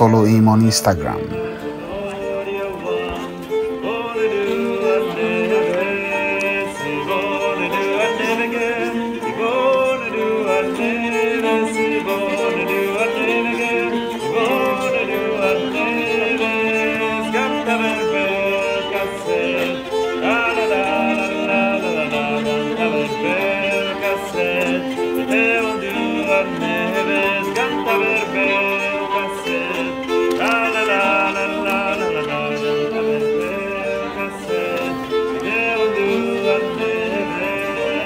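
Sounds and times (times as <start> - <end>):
bowed keyed fiddle folk melody: 0.0 - 38.0.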